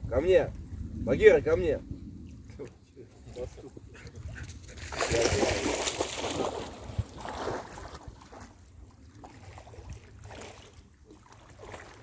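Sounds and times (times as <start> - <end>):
wind rumble on microphone: 0.0 - 12.0
river water splashing: 2.3 - 12.0.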